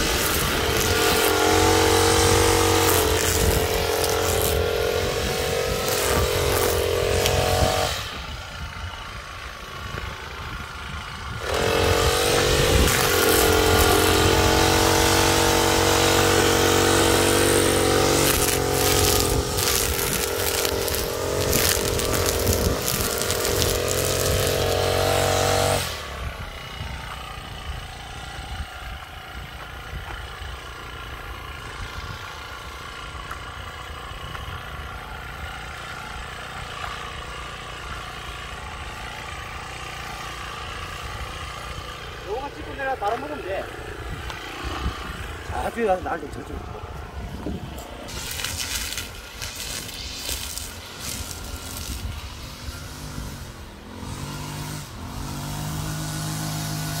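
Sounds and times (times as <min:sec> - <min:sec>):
brush cutter engine revving: 0:00.0 - 0:57.0.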